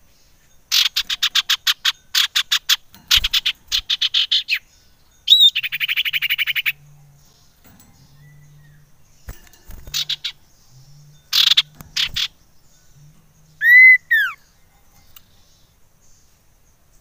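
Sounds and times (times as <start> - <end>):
bird harsh call notes: 0.7 - 15.8.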